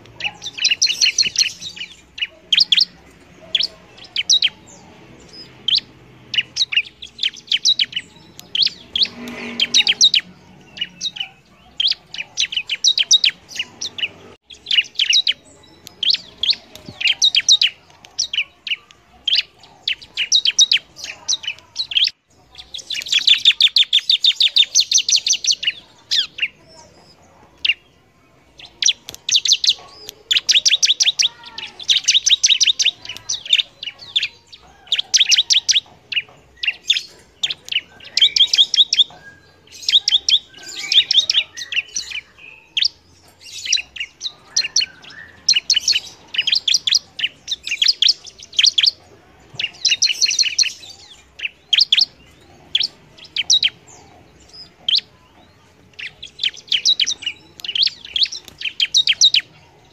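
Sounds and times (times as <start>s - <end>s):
bird singing high chirps: 0.0s - 59.9s.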